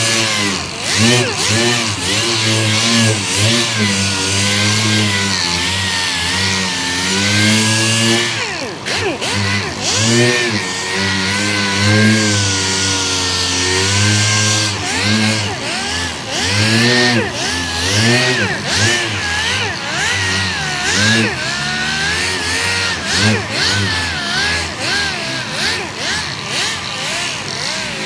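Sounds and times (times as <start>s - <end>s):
power sander motor: 0.0s - 28.0s.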